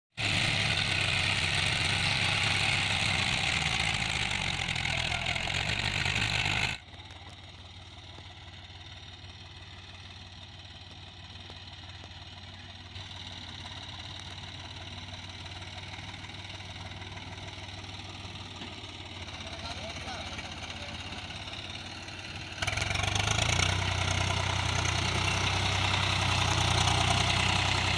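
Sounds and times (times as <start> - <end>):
tractor diesel engine running: 0.1 - 27.9.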